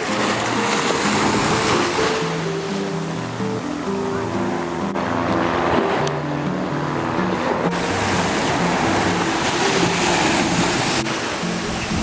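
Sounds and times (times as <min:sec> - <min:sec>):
ocean surf: 0:00.0 - 0:12.0
slow melody music: 0:00.0 - 0:12.0.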